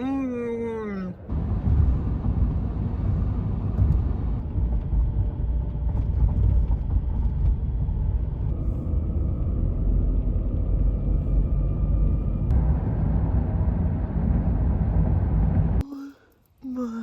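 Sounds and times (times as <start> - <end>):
car driving rumble: 0.0 - 15.8.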